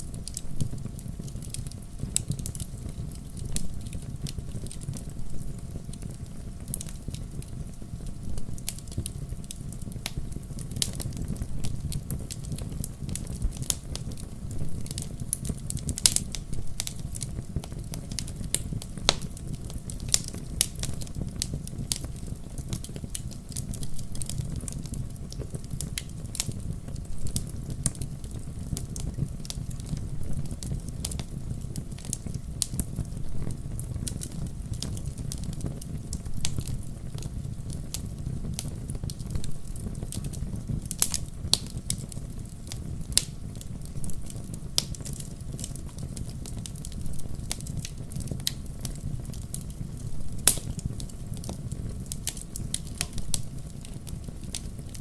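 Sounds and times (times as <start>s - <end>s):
burning wood crackling and popping: 0.0s - 55.0s
campfire flames rumbling: 0.0s - 55.0s.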